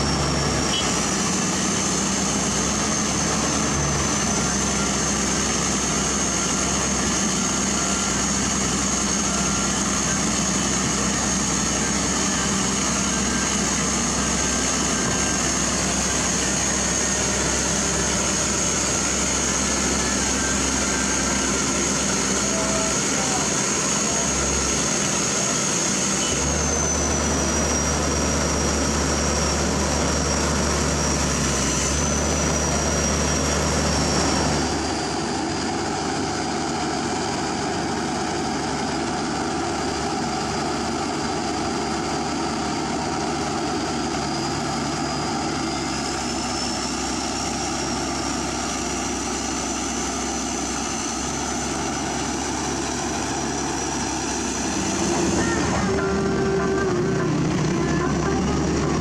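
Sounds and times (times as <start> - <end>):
high whine: 0.0 - 37.7, 41.0 - 59.0
excavator diesel engines: 0.0 - 59.0.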